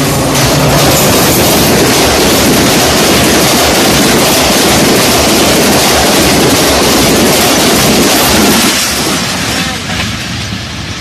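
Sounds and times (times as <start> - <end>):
train wheels rushing on rails: 0.0 - 11.0.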